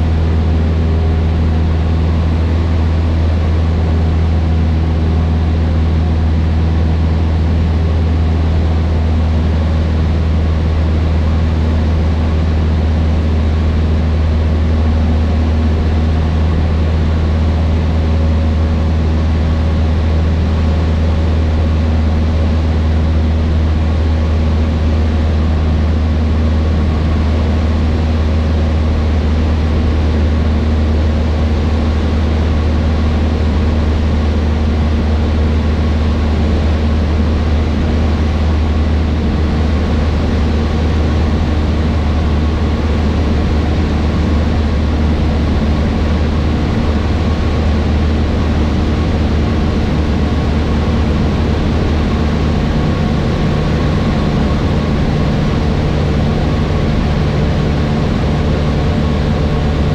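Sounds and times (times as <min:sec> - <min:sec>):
airplane engine and propeller droning: 0:00.0 - 0:59.9.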